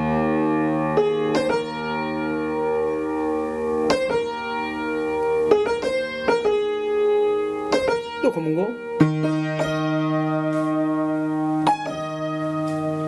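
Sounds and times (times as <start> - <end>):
sustained piano notes: 0.0 - 13.0.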